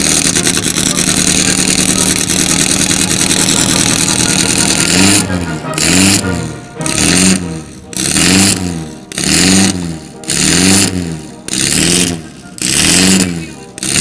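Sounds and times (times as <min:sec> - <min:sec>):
racing car engine revving: 0:00.0 - 0:14.0.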